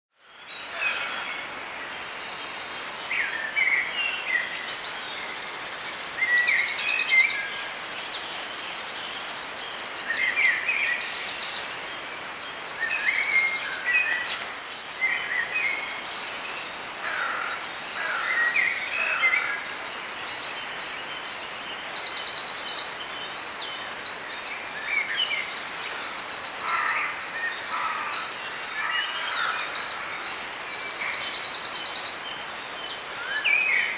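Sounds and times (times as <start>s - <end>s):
songbirds singing and trilling: 0.2s - 33.9s
steady background hiss: 0.2s - 33.9s.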